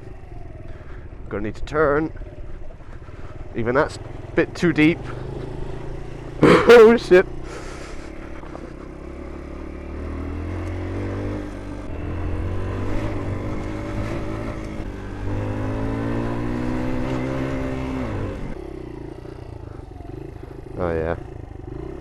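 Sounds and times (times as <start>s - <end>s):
small motorbike engine revving: 0.0s - 1.2s, 2.1s - 22.0s.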